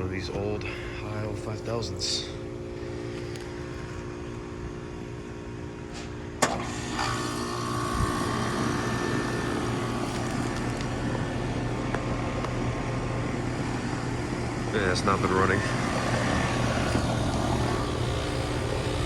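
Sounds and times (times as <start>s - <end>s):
air conditioner hum: 0.0s - 19.0s.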